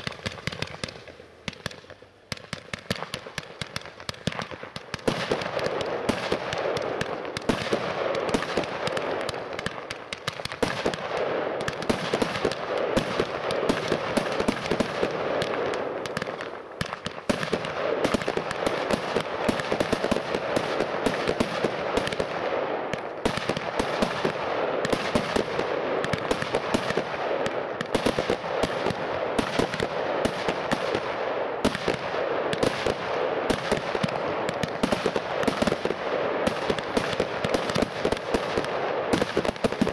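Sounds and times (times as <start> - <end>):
fireworks cake firing: 0.0 - 39.9.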